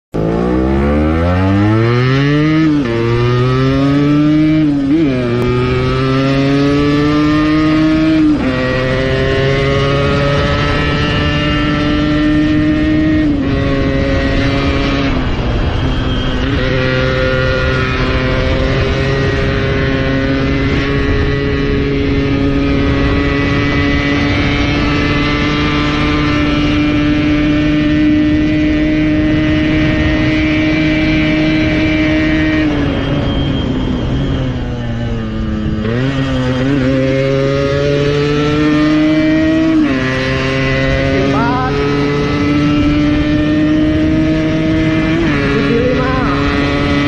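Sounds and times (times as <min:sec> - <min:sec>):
motorcycle engine at full throttle: 0:00.1 - 0:47.0.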